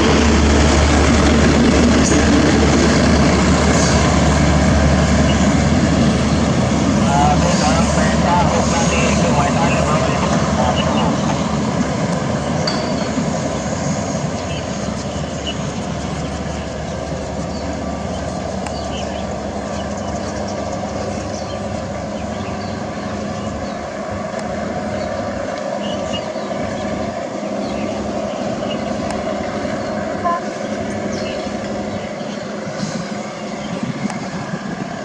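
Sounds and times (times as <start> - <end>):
train rumbling: 0.0 - 35.0.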